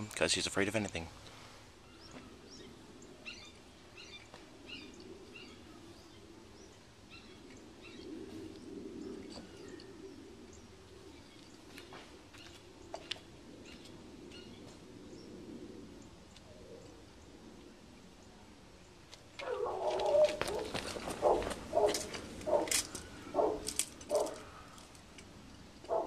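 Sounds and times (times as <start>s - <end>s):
small birds chirping: 0.3s - 15.4s, 18.2s - 24.9s.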